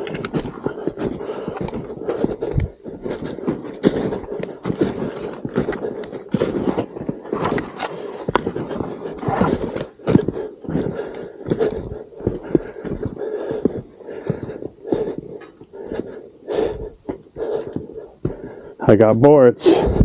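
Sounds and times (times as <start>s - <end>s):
footsteps crunching through snow: 0.0s - 18.6s.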